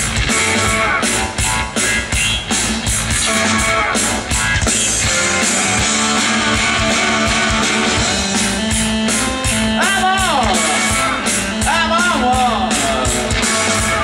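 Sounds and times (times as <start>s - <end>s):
held guitar notes: 0.0s - 14.0s
steady drum beat: 0.0s - 14.0s.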